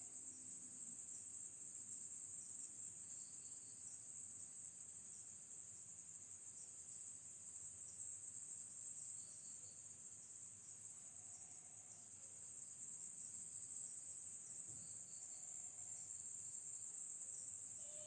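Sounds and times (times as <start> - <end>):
night insects chorus: 0.0 - 18.0.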